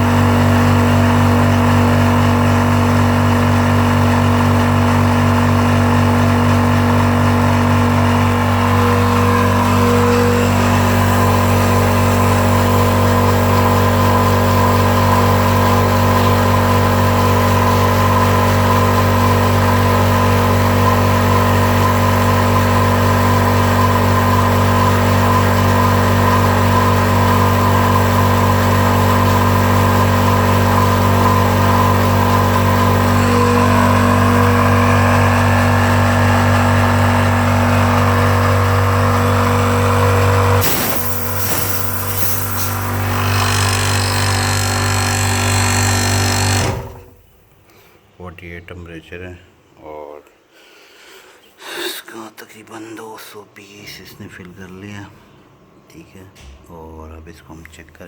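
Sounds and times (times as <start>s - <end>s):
air compressor humming: 0.0s - 47.7s.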